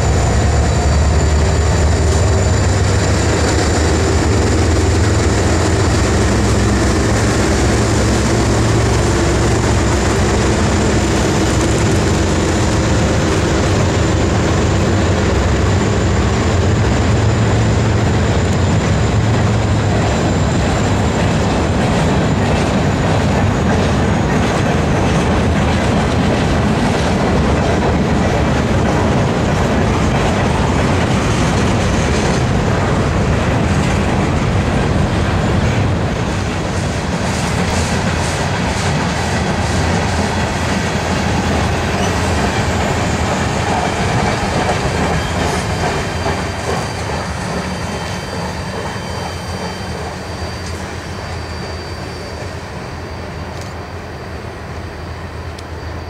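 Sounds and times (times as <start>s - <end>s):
diesel locomotive engine drone: 0.0s - 56.0s
train wheels rumbling on rail: 0.0s - 56.0s.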